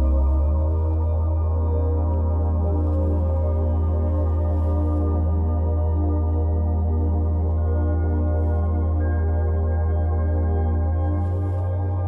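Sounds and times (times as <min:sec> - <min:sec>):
ambient music with low drone: 0:00.0 - 0:12.0.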